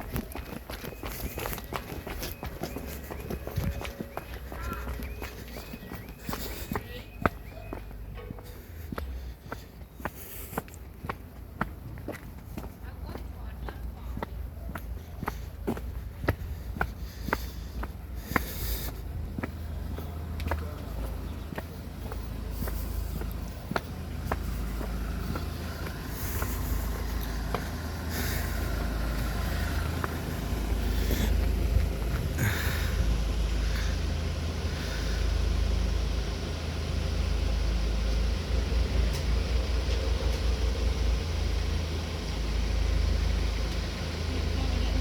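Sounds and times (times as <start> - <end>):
road vehicles passing: 0.0 - 45.0.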